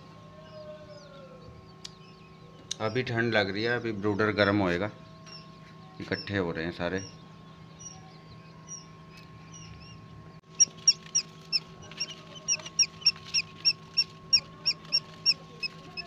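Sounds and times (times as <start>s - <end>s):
quail chicks peeping: 0.0s - 16.0s
steady low hum: 0.0s - 16.0s.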